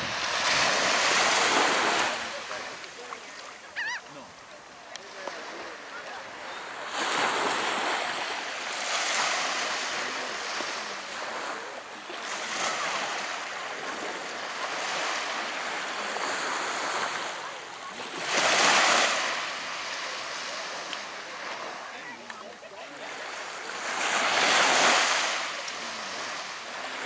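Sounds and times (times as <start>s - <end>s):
small waves breaking on beach: 0.0s - 27.0s.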